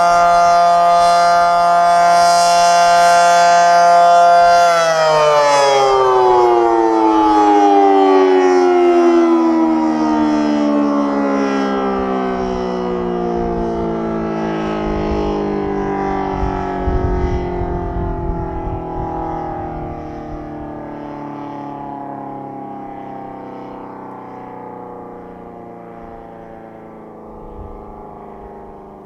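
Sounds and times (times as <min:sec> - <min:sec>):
fire siren wailing: 0:00.0 - 0:29.0.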